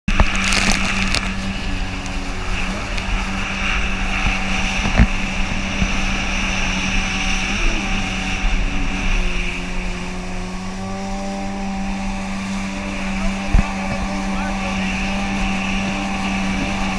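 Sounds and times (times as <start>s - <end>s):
jet ski engine running: 0.0s - 16.9s
water spray hissing and splashing: 0.1s - 16.9s.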